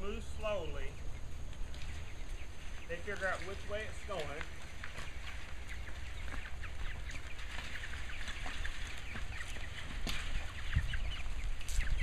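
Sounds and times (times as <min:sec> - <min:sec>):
hens clucking: 0:00.0 - 0:12.0
wheels rumbling over gravel: 0:01.5 - 0:12.0.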